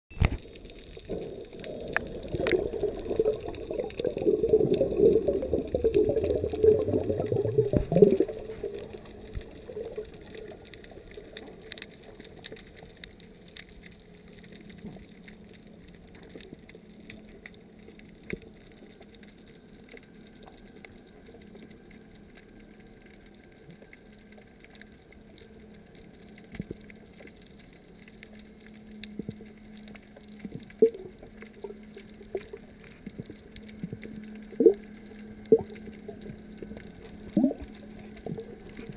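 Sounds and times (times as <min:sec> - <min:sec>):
faint steady hum: 0:00.1 - 0:38.9
water and bubbles rushing underwater: 0:00.1 - 0:38.9.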